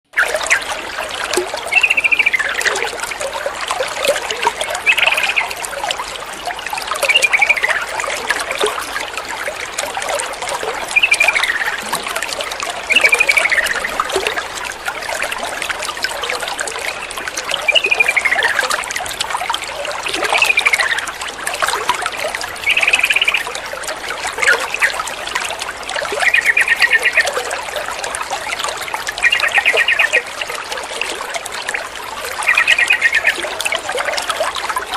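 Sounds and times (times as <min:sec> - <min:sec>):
water trickling: 0:00.1 - 0:34.9.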